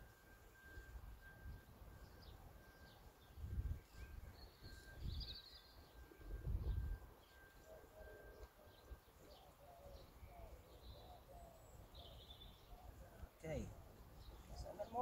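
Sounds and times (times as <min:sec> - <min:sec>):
small birds chirping: 0:01.6 - 0:15.0.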